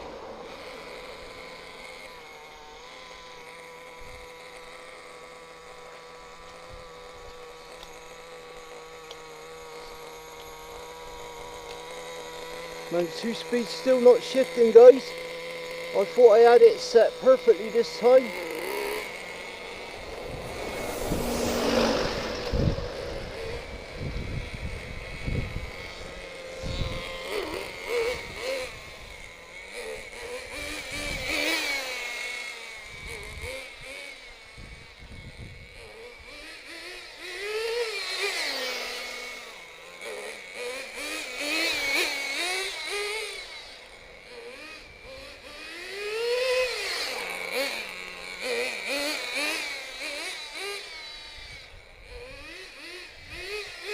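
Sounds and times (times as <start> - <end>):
model car nitro engine revving: 0.0 - 53.9.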